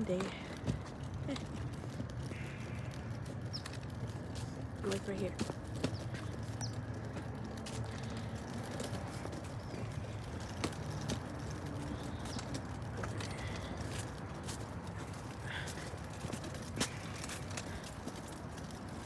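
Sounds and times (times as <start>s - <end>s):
footsteps on pavement: 0.0s - 19.0s
traffic rumble: 0.0s - 19.0s.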